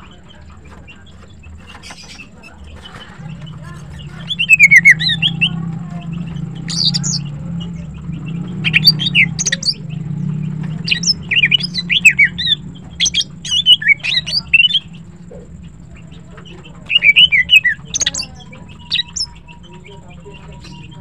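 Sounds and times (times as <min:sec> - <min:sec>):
steady low hum: 0:00.0 - 0:21.0
bird chirping and whistling: 0:03.3 - 0:21.0.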